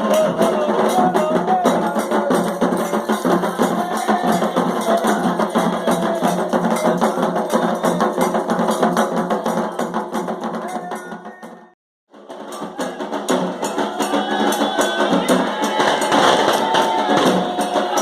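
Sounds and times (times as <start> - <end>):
drums: 0.0 - 18.0.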